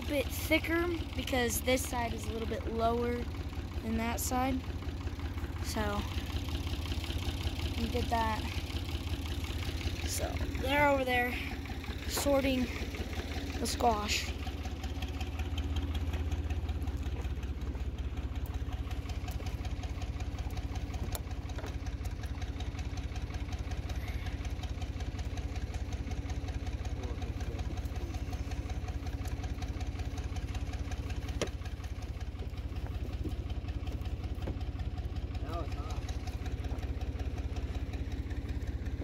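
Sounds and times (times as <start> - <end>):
tractor engine idling: 0.0 - 39.0.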